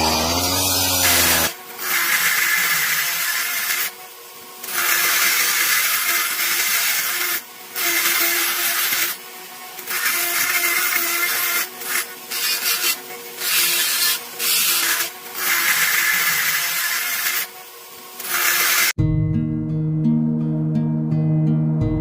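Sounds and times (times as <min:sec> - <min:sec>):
power tool motor: 0:00.0 - 0:19.0
power tool sanding wood: 0:00.0 - 0:19.0.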